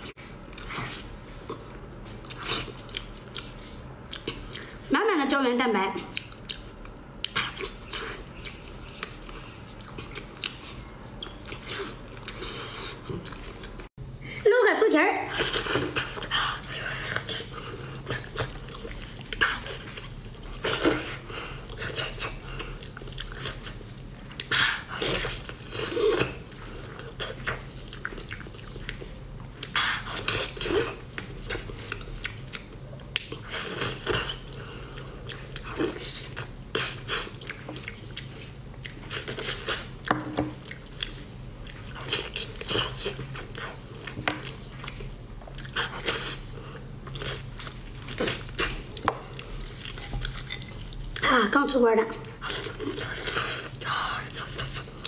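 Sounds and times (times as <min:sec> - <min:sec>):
low steady hum: 0:00.0 - 0:55.0
wet chewing and lip-smacking: 0:00.2 - 0:04.9, 0:06.1 - 0:13.9, 0:15.4 - 0:51.3.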